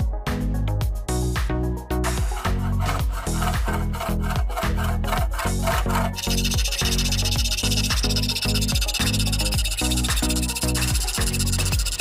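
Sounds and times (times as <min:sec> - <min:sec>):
electronic music with steady beat: 0:00.8 - 0:12.0
hand saw cutting plastic pipe: 0:02.0 - 0:12.0.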